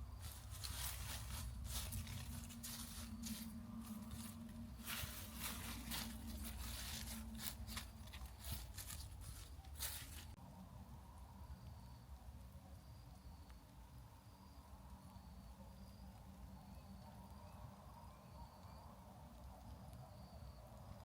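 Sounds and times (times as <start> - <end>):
crackling and rustling of leaves: 0.0 - 21.0
faint steady hum: 0.0 - 21.0.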